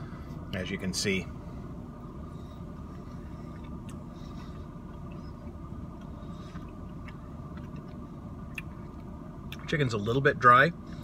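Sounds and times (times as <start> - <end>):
car cabin low hum: 0.0 - 11.0.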